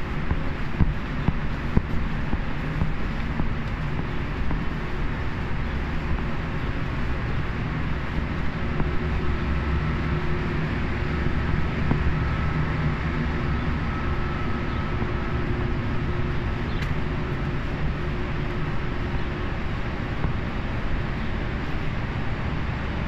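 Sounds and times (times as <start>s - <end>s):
distant traffic rumble: 0.0s - 23.0s
faint hums: 0.0s - 23.0s.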